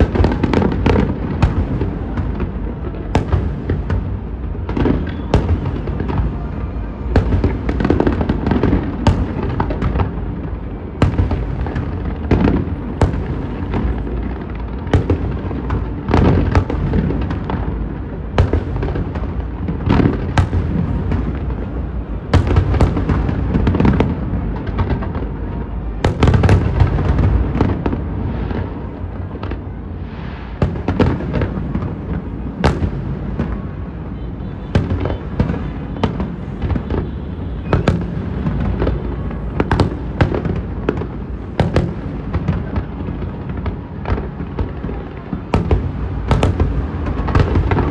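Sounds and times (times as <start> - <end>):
fireworks bangs: 0.0 - 47.9
rumble of fireworks bursts: 0.0 - 47.9.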